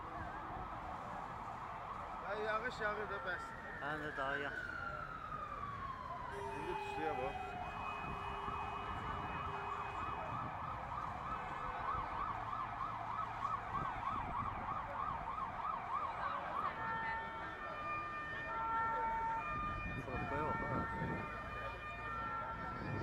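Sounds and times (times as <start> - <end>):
fire engine siren: 0.0 - 23.0.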